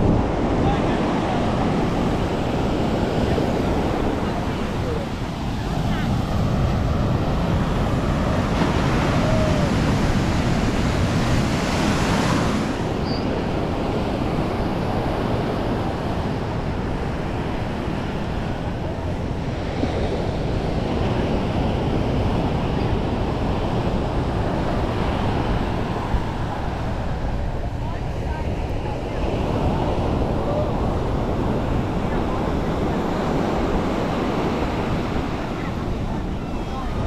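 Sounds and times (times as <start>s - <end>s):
ocean surf breaking on beach: 0.0s - 37.0s
wind on microphone: 0.0s - 37.0s.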